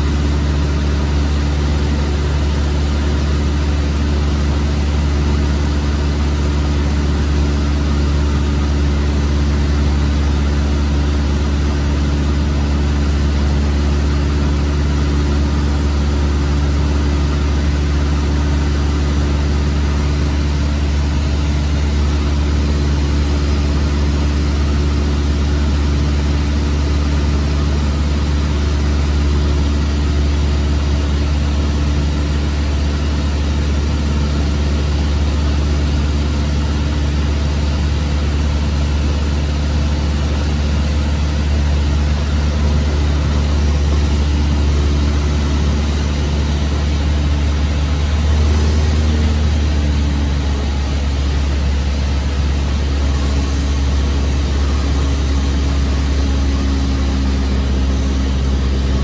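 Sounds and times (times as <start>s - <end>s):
propeller airplane engine droning: 0.0s - 59.0s.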